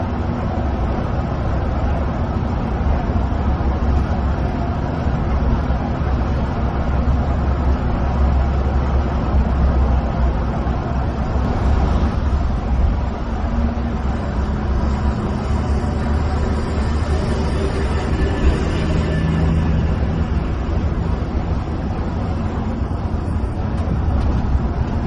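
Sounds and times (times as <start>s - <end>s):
coach engine drone: 0.0s - 25.0s
tyre roar on road: 0.0s - 25.0s.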